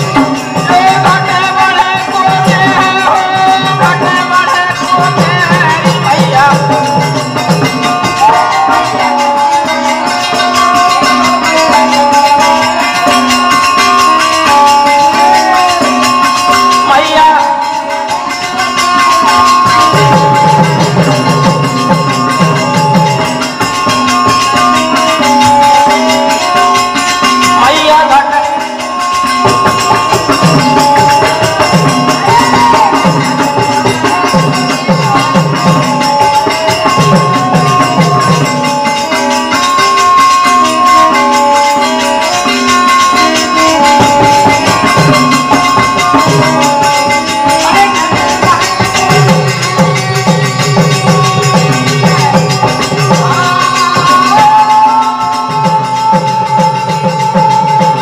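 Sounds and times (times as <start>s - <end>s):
hand drums beating: 0.0s - 58.0s
harmonium melody: 0.0s - 58.0s.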